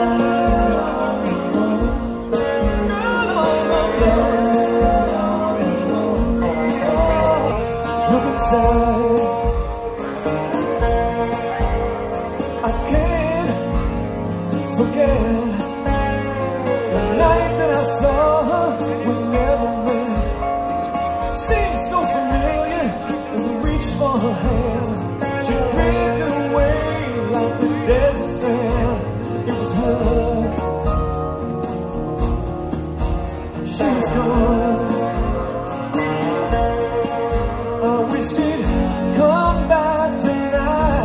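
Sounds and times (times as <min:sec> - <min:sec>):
acoustic guitars: 0:00.0 - 0:41.0
man singing: 0:00.0 - 0:41.0
steady drum beat: 0:00.0 - 0:41.0.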